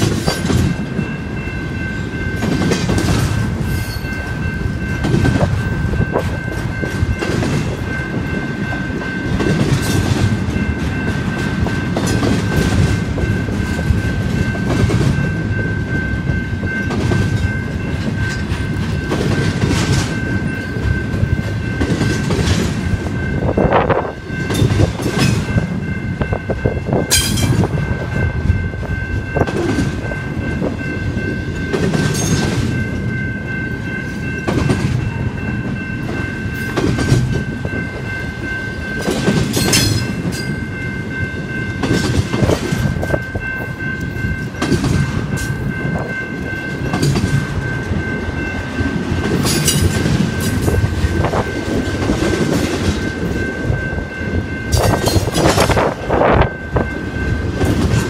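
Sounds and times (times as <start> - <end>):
train cars rumbling past: 0.0 - 58.0
train wheels clacking: 0.0 - 58.0.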